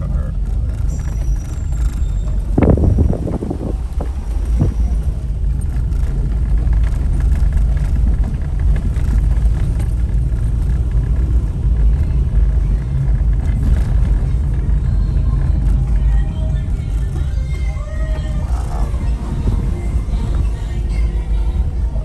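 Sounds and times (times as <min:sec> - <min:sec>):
car interior road and engine noise: 0:00.0 - 0:22.0.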